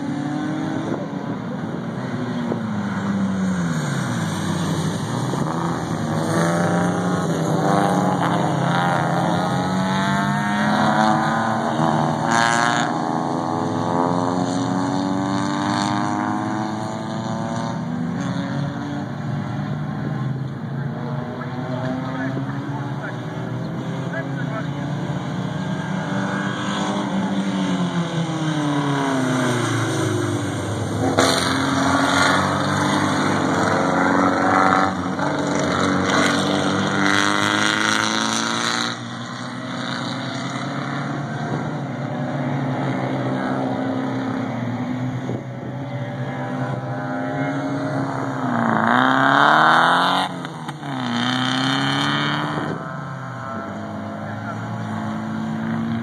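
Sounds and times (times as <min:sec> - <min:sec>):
race car engines passing: 0:00.0 - 0:56.0.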